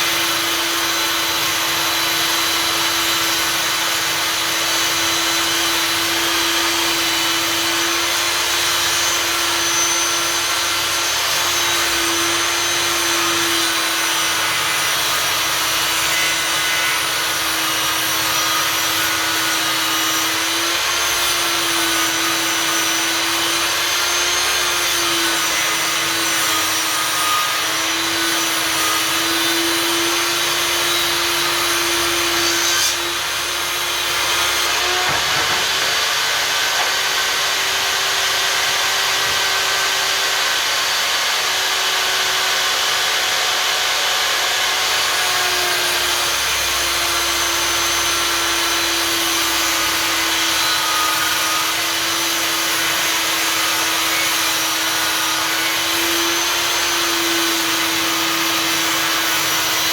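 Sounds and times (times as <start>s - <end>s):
table saw cutting wood: 0.0s - 59.9s.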